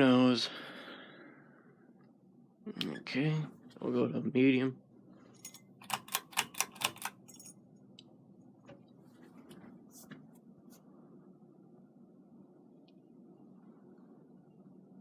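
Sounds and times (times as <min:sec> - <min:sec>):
fan motor running quietly: 0:00.0 - 0:15.0.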